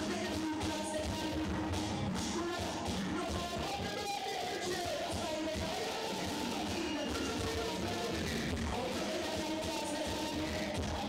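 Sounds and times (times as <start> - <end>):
loud dance music with bass: 0.0 - 11.0.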